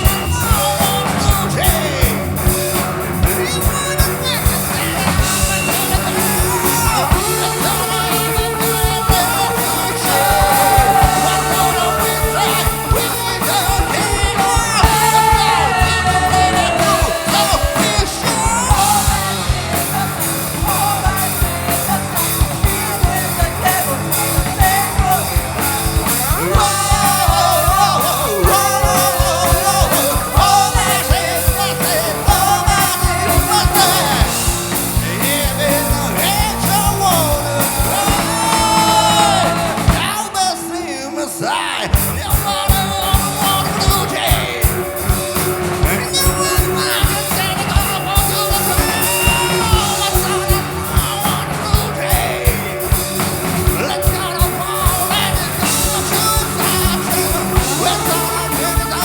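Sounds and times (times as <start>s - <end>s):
driving drum beat: 0.0s - 59.0s
lead singer singing: 0.0s - 59.0s
rock band playing live: 0.0s - 59.0s.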